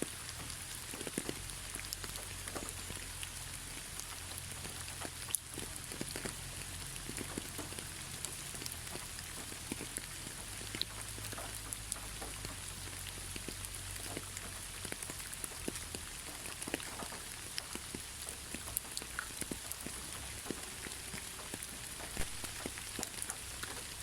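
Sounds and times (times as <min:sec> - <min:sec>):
rain hissing: 0:00.0 - 0:24.0
raindrops ticking and pattering: 0:00.0 - 0:24.0.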